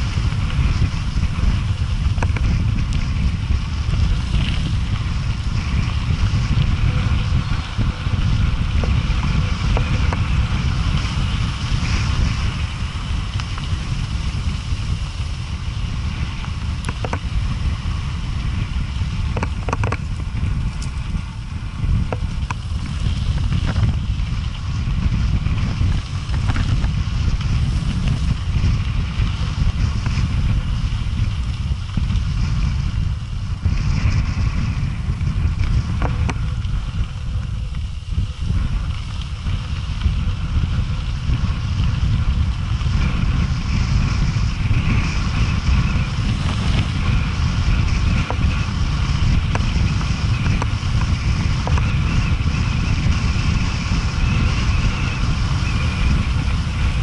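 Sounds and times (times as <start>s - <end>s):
bicycle rattle and knock: 0.0s - 57.0s
wind rumble on microphone: 0.0s - 57.0s.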